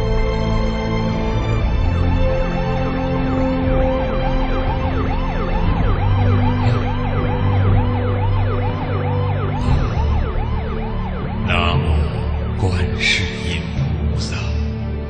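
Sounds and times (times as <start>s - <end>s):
emergency vehicle siren wailing: 0.0s - 13.7s
steady low tones: 0.0s - 15.0s.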